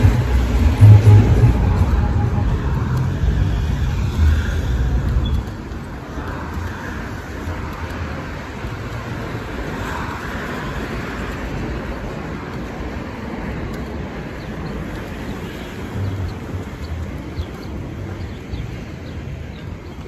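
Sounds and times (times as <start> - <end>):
cars going by: 0.0 - 20.0.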